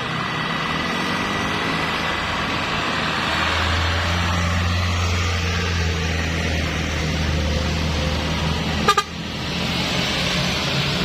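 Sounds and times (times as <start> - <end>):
road and tyre noise: 0.0 - 11.0.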